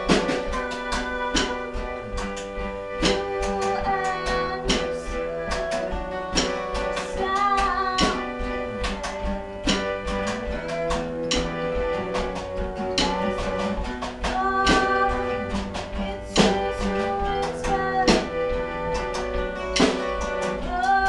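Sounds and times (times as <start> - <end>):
person singing: 0.0 - 10.9, 12.0 - 21.0
drum kit beat: 0.0 - 21.0
strummed acoustic guitar: 0.0 - 21.0.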